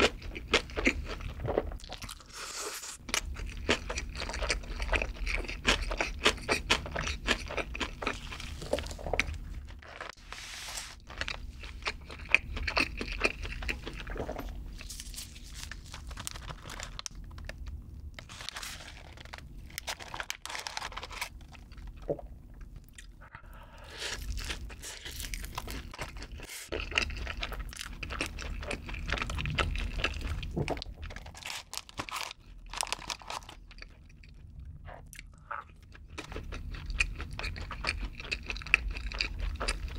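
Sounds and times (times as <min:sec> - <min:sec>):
wet chewing and crunching: 0:00.0 - 0:10.2, 0:11.0 - 0:39.9.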